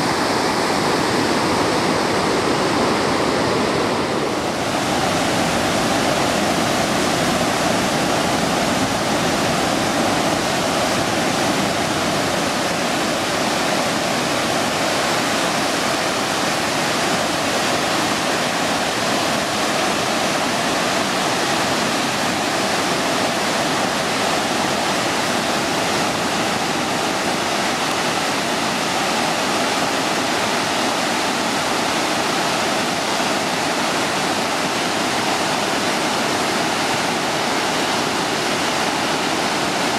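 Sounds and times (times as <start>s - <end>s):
river rushing through rapids: 0.0s - 39.9s.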